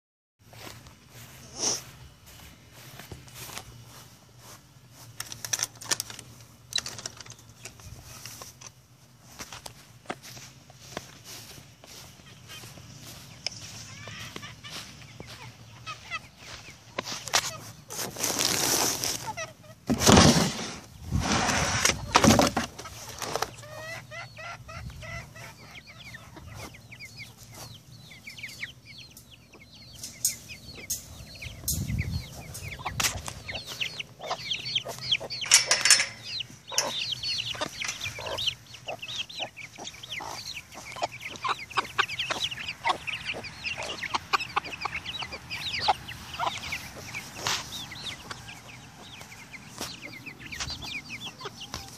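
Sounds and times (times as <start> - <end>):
chickens clucking and chirping: 0.4 - 51.9.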